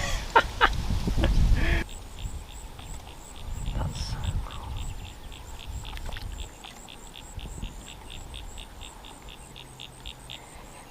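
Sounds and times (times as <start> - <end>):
frogs calling in pulses: 1.7 - 10.9.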